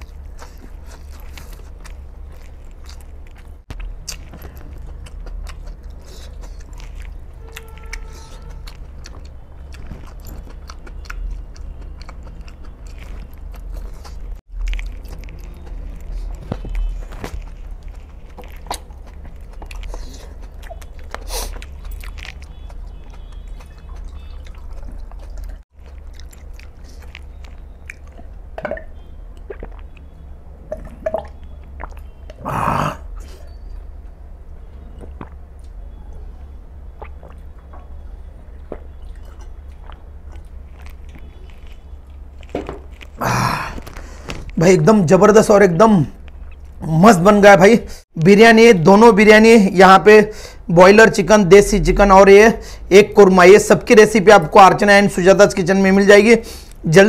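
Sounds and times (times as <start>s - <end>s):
man chewing: 0.0s - 44.6s, 46.2s - 46.9s, 56.4s - 56.9s.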